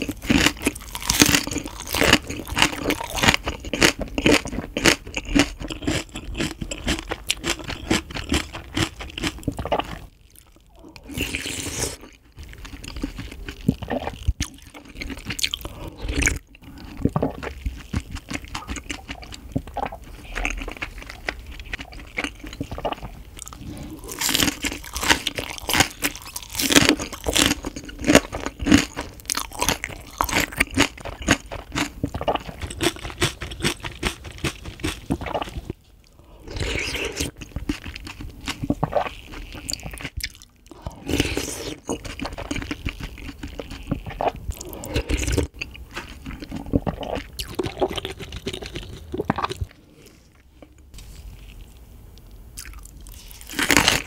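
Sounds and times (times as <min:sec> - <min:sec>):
crisp chewing and crunching: 0:00.0 - 0:54.0.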